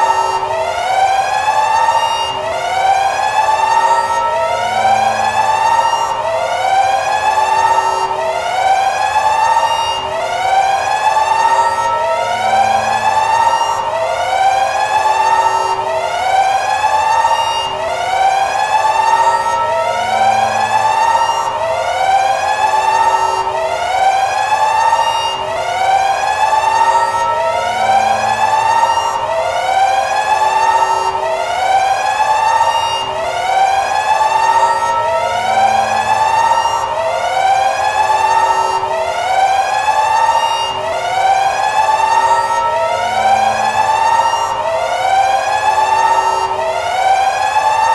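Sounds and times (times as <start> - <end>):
alarm siren whooping: 0.0 - 47.9.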